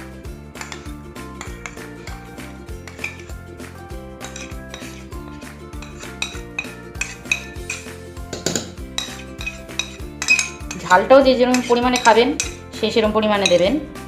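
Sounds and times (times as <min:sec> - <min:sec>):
light background music: 0:00.0 - 0:14.0
spoon scraping metal bowl: 0:00.6 - 0:03.4, 0:04.2 - 0:12.8, 0:13.4 - 0:13.8.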